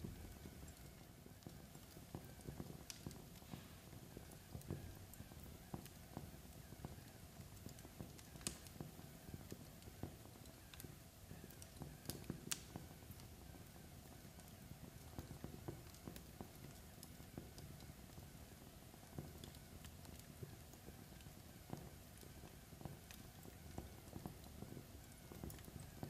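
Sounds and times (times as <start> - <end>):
logs crackling in fireplace: 0.0 - 26.0
low fire rumble: 0.0 - 26.0.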